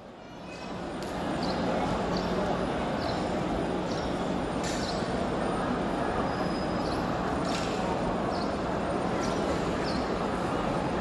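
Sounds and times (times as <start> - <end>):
crowd hubbub in echoing hall: 0.0 - 11.0.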